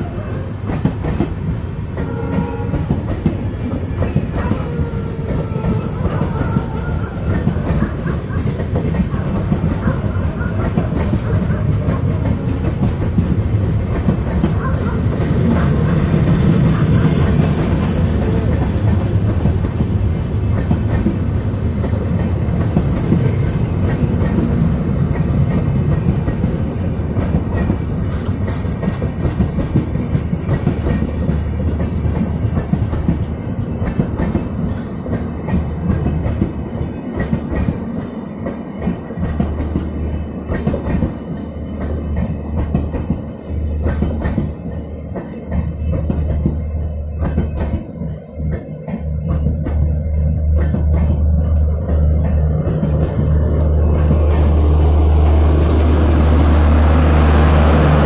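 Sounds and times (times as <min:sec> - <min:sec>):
train passing at speed: 0:00.0 - 0:58.0.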